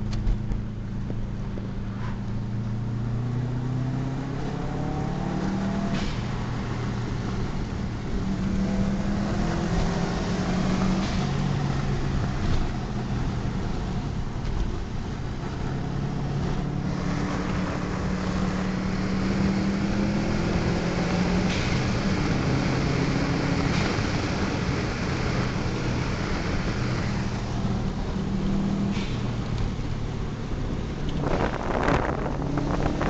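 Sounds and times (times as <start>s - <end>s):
car engine accelerating: 0.0s - 33.0s
road and wind noise: 0.0s - 33.0s.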